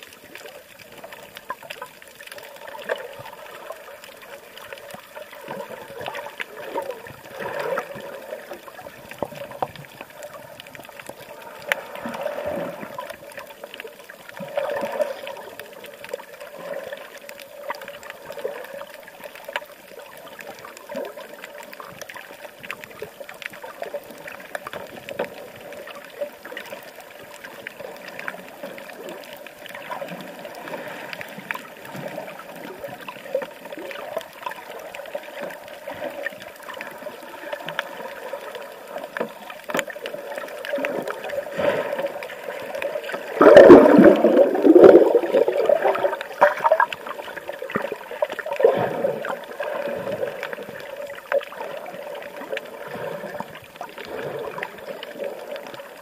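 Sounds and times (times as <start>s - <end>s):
water splashing: 0.0s - 56.0s
water trickling and gurgling: 0.0s - 56.0s.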